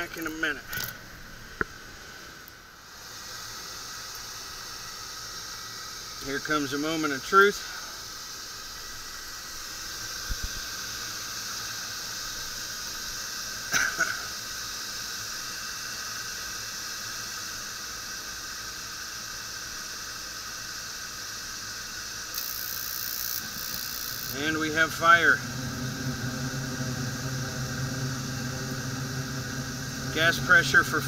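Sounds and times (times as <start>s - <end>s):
fans hissing and whining: 0.0s - 31.0s.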